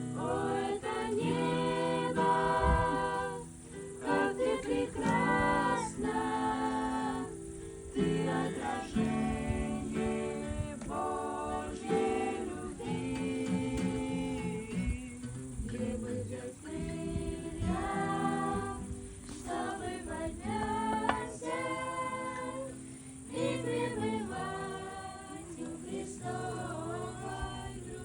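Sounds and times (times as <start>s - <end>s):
people singing: 0.0s - 28.0s
strummed acoustic guitar: 0.0s - 28.0s.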